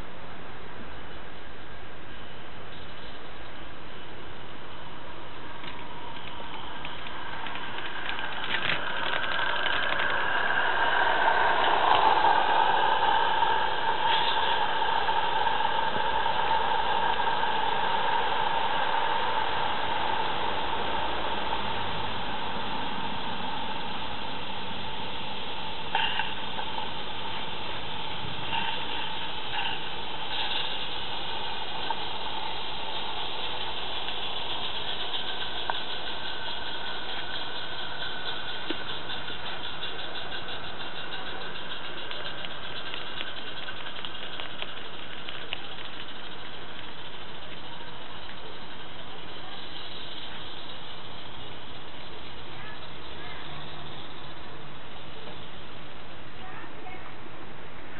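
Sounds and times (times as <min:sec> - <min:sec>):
steam locomotive hissing: 0:03.6 - 0:57.0
rapid exhaust beat: 0:05.0 - 0:56.1.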